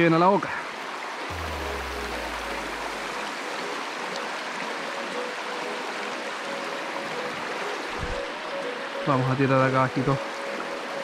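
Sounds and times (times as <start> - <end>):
river water rushing: 0.6 - 11.0.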